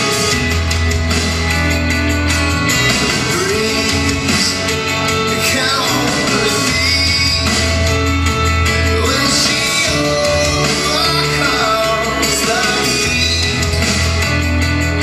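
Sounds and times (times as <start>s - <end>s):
pop-rock song with singing: 0.0s - 15.0s.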